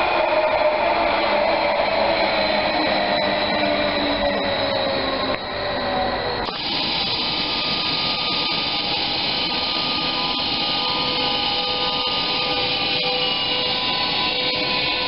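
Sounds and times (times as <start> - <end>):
electric locomotive whine: 0.0 - 15.0
train rumbling: 0.0 - 15.0.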